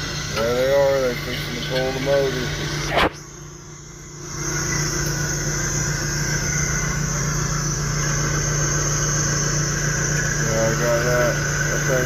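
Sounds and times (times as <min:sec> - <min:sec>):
loader engine idling: 0:00.0 - 0:12.0
steady high whine: 0:00.0 - 0:12.0.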